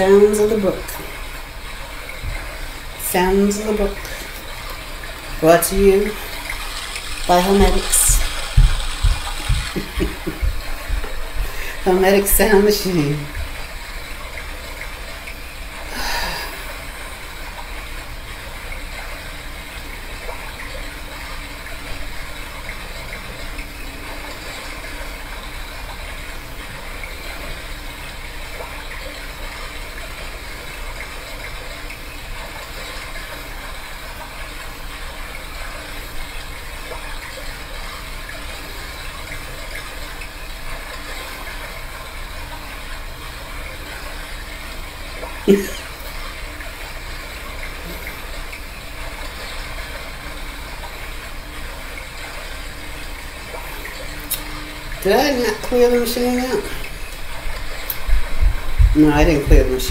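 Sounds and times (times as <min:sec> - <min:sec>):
flowing water hiss: 0:00.0 - 0:59.9.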